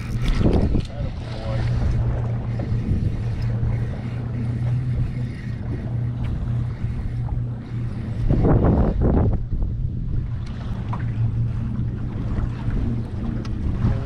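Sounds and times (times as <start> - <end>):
steady low hum: 0.0 - 14.0
wind noise on microphone: 0.0 - 14.0.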